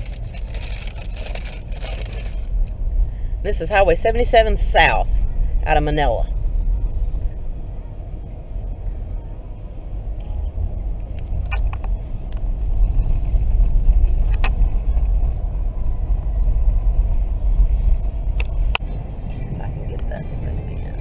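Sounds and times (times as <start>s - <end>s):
car tyres and engine rumble: 0.0s - 21.0s.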